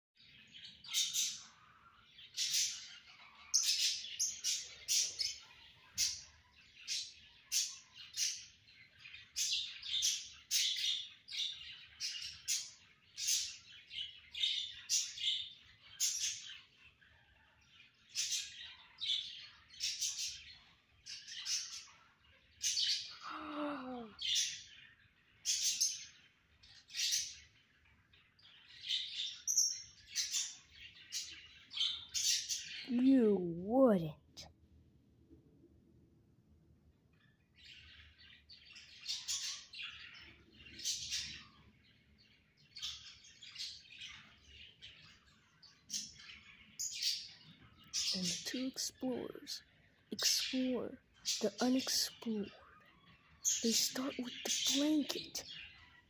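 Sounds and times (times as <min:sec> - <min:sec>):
lovebirds chirping: 0:00.2 - 0:56.0.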